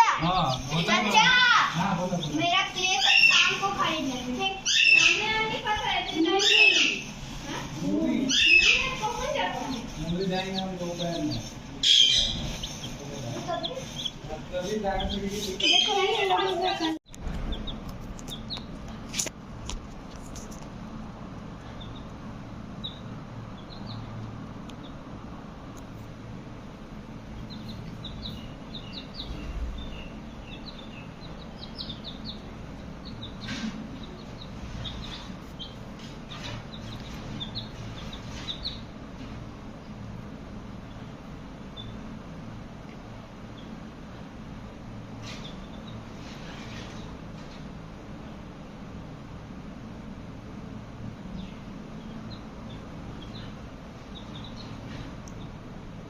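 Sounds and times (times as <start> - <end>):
baby chicks peeping: 0.0 - 56.0
steady low hum: 0.0 - 56.0.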